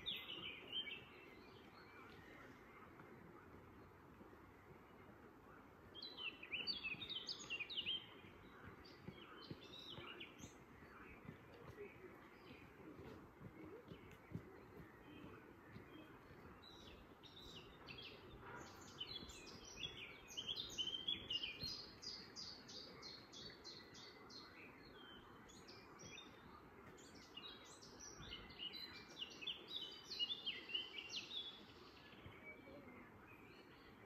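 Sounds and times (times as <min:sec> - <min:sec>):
faint low background noise: 0:00.0 - 0:34.0
songbirds chirping: 0:00.0 - 0:34.0.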